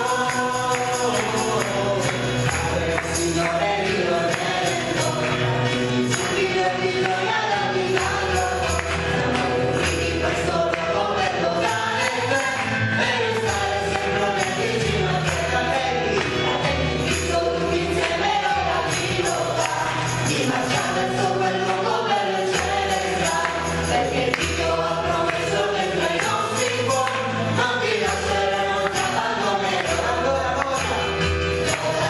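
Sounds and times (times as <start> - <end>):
choir singing: 0.0 - 32.0
keyboard accompaniment: 0.0 - 32.0.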